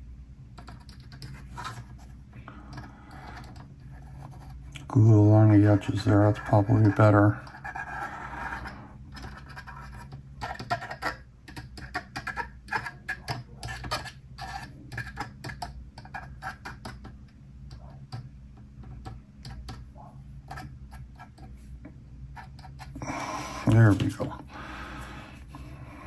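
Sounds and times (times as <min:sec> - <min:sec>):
steady low hum: 0:00.0 - 0:11.5, 0:12.1 - 0:26.0.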